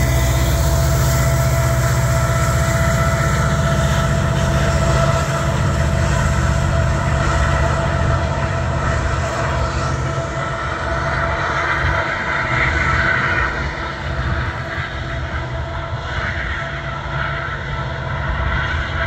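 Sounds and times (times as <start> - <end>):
diesel locomotive engines droning: 0.0 - 19.0
high whine: 0.0 - 19.0
wheels rumbling on rails: 0.0 - 19.0.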